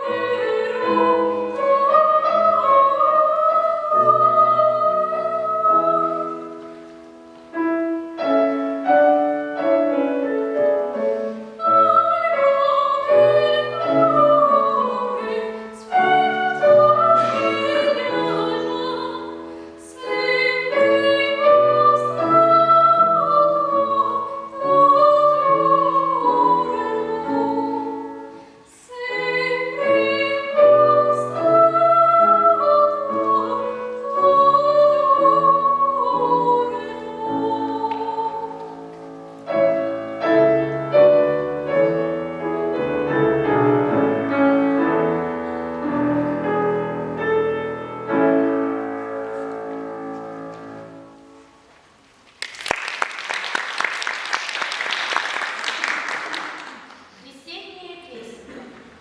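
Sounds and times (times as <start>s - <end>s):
piano accompaniment: 0.0s - 57.1s.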